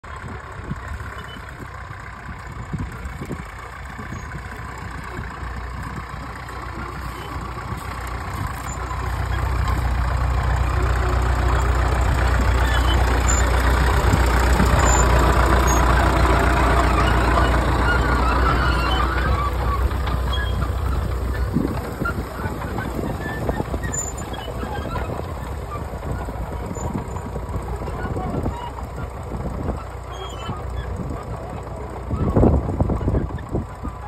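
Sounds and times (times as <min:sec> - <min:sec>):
crawler tractor diesel engine running: 0:00.0 - 0:34.0.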